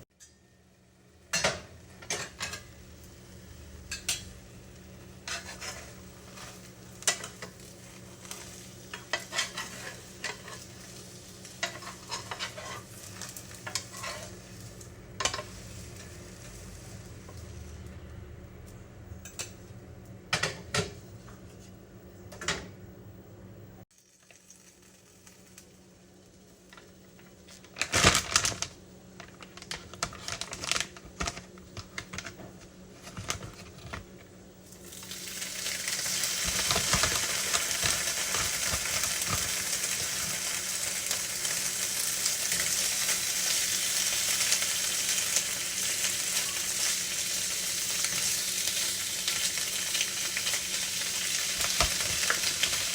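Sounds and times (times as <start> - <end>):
batter sizzling in a pan: 0.2 - 18.0, 23.8 - 31.5, 34.5 - 52.9.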